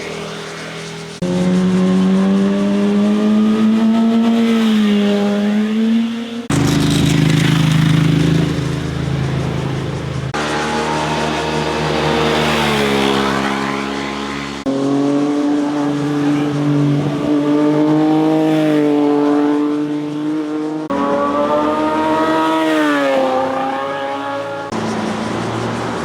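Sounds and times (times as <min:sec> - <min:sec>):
motorcycle engines revving past: 0:00.0 - 0:26.0.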